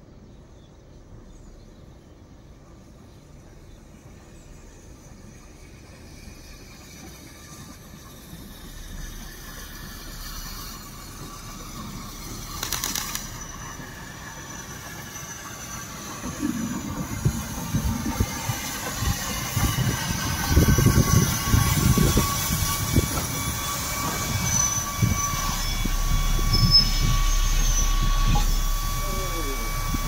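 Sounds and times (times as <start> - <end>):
train wheels rumbling on rails: 0.0 - 30.0
steam hiss: 3.8 - 30.0.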